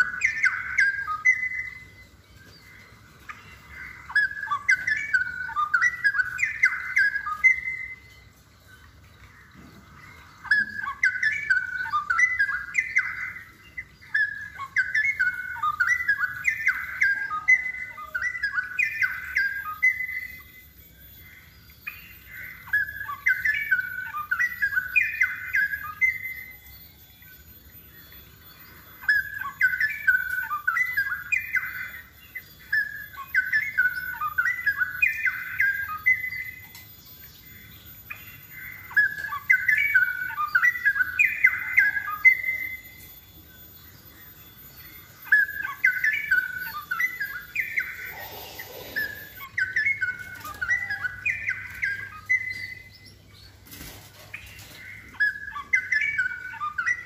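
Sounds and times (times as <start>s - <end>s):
bulbul singing warbled notes: 0.0s - 57.0s.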